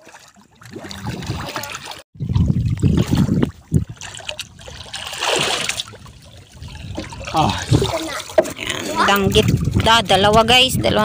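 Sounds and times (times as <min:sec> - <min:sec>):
water sloshing against boat: 0:00.0 - 0:11.0.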